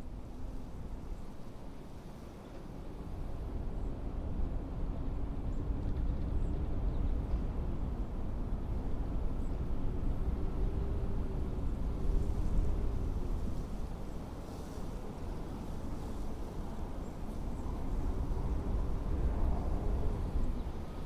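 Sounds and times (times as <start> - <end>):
blizzard wind rumbling rush: 0.0 - 21.0
faint wavering wind howl: 0.0 - 21.0.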